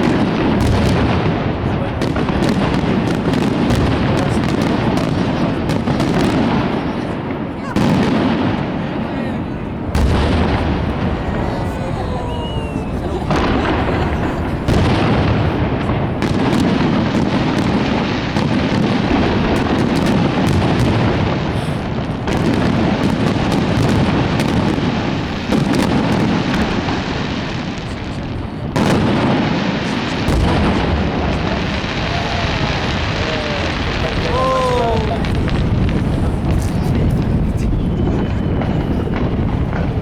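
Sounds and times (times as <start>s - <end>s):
fireworks bursts and booms: 0.0s - 40.0s.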